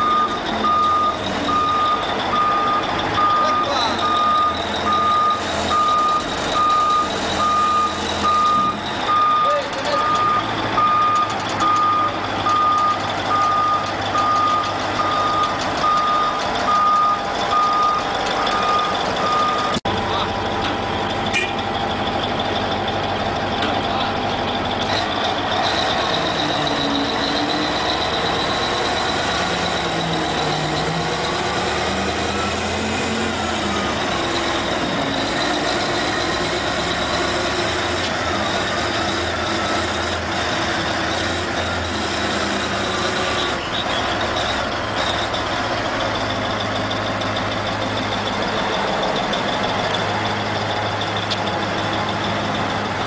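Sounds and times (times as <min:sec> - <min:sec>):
wheel loader diesel engine revving: 0:00.0 - 0:53.0.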